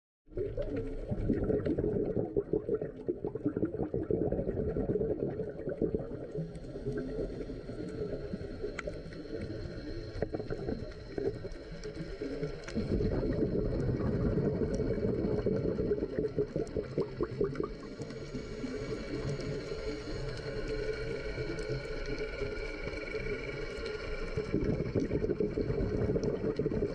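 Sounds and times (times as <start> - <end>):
scuba bubbles gurgling underwater: 0.3 - 26.9.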